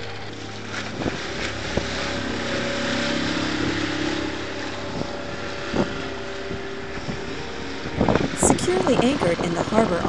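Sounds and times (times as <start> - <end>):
outboard motor running: 0.0 - 10.0
water noise: 0.0 - 10.0
wind: 0.0 - 10.0.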